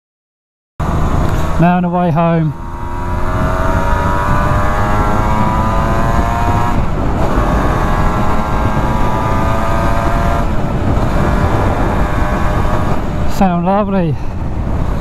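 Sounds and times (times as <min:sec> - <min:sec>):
motorcycle engine accelerating: 0:00.8 - 0:13.4, 0:14.4 - 0:15.0
wind rushing on microphone: 0:00.8 - 0:15.0.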